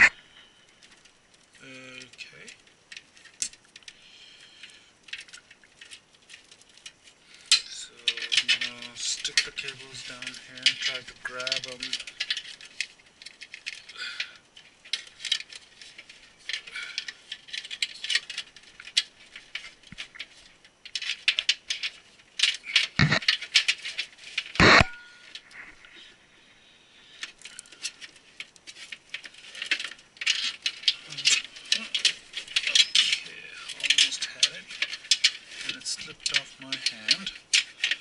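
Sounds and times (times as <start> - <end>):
cables clicking and rattling: 0.0 - 26.3, 27.0 - 38.0.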